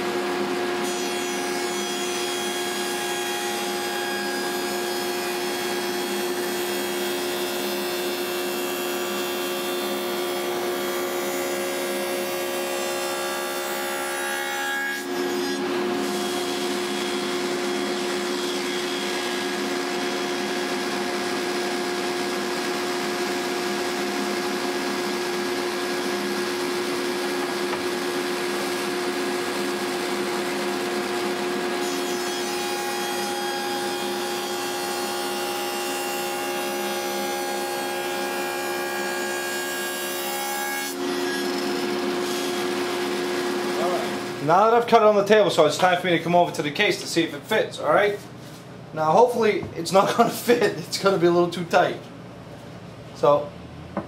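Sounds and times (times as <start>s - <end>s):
table saw cutting wood: 0.0s - 44.5s.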